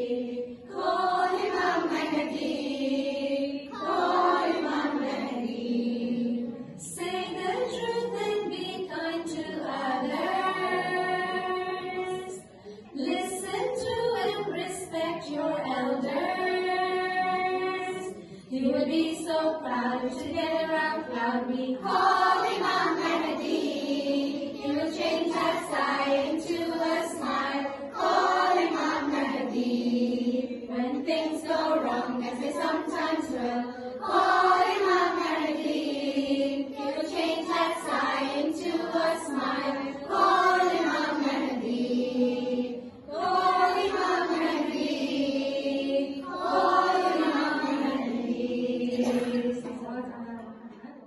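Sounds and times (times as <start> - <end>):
children and women singing: 0.0 - 50.8.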